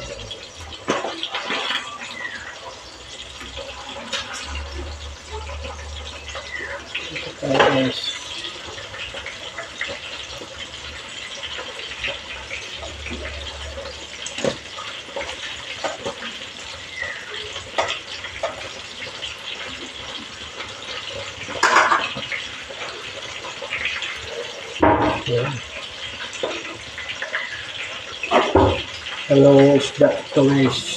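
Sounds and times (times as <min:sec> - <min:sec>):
fish sizzling in oil: 0:00.0 - 0:30.9.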